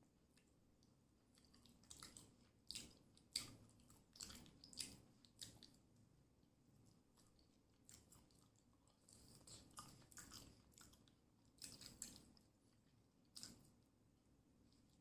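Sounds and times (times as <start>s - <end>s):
person chewing food: 0.3s - 6.0s, 6.7s - 13.9s.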